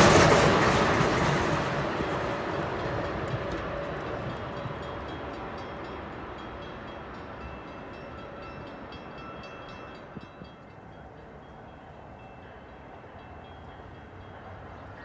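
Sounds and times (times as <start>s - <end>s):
train rumbling down the track: 0.0s - 15.0s.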